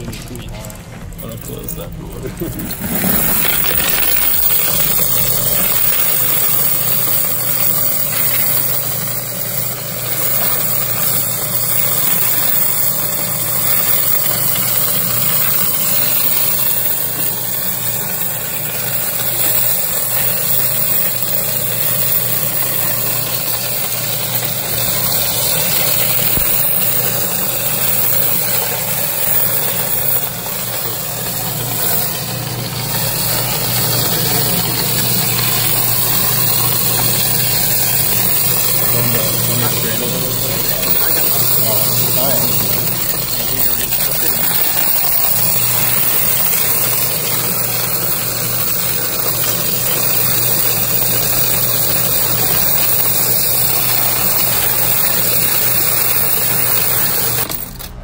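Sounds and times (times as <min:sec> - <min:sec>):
coin counting machine motor humming: 0:00.0 - 0:58.0
coins rattling: 0:00.0 - 0:58.0.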